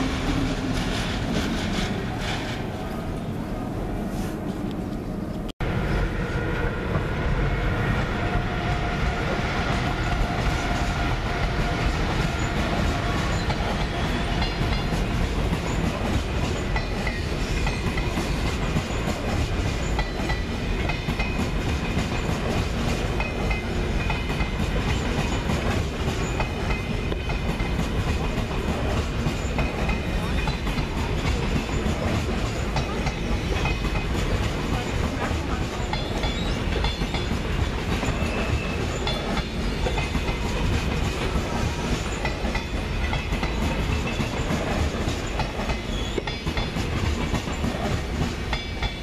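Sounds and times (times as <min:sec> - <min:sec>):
train wheels clattering on track: 0:00.0 - 0:02.9, 0:08.1 - 0:49.0.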